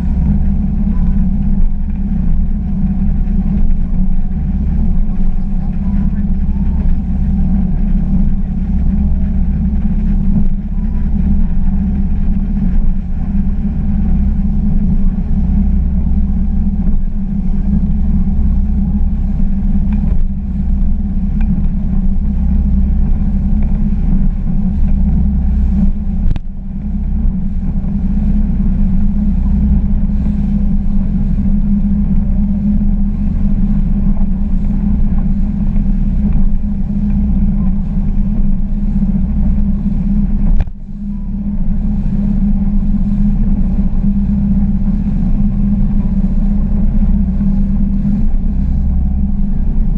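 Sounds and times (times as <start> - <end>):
boat engine drone: 0.0 - 49.9
rushing wind: 0.0 - 49.9.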